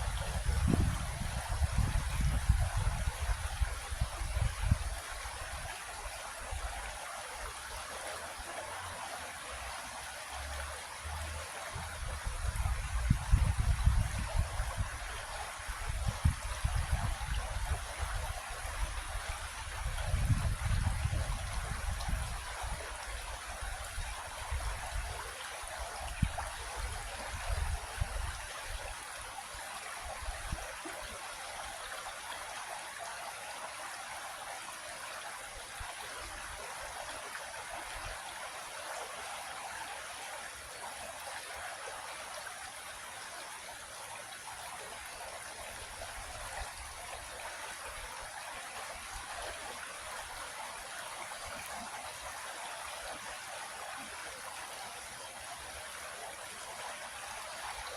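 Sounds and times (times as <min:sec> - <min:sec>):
creek water flowing: 0:00.0 - 0:57.9.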